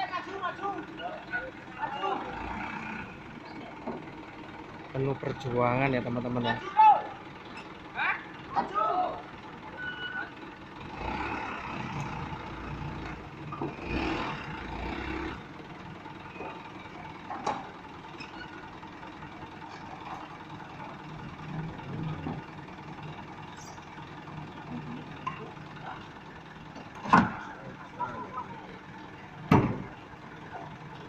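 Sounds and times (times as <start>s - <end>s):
truck engine running at low speed: 0.0s - 31.0s.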